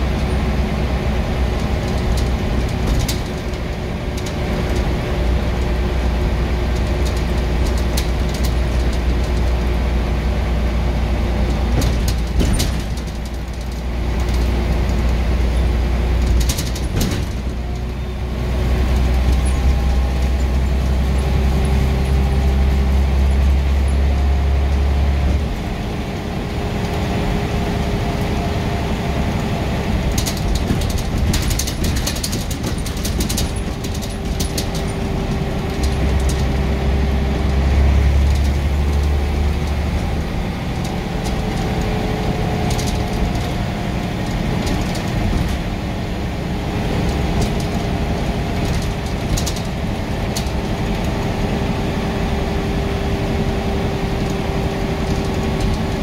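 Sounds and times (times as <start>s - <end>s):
rattles and clicks: 0.0s - 52.0s, 53.0s - 56.0s
bus engine drone: 0.0s - 56.0s.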